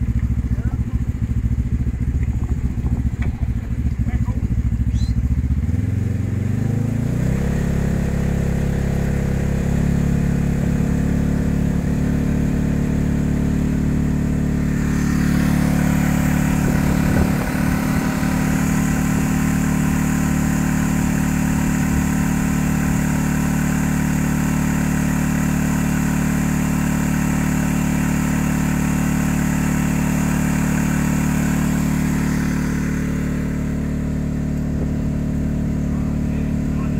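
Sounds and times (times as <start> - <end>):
fire pump engine running: 0.0 - 36.9.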